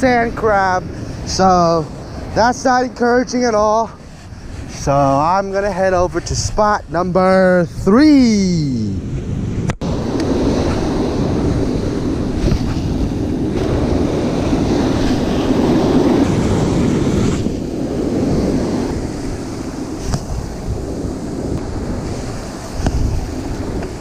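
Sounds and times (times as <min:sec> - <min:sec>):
surf breaking on a beach: 0:00.0 - 0:24.0
wind buffeting microphone: 0:00.0 - 0:24.0.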